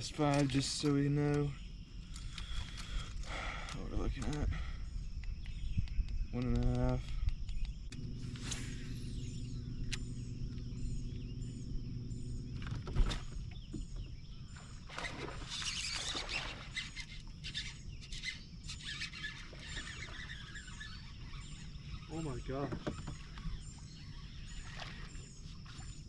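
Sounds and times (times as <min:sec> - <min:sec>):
low hum: 0:00.0 - 0:26.0
small birds chirping: 0:00.0 - 0:26.0.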